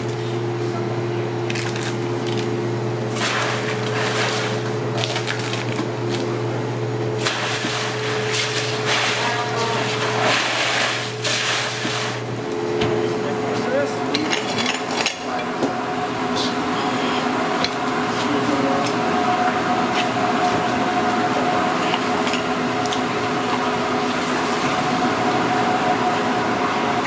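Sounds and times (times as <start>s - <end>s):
hum of running equipment: 0.0s - 27.0s.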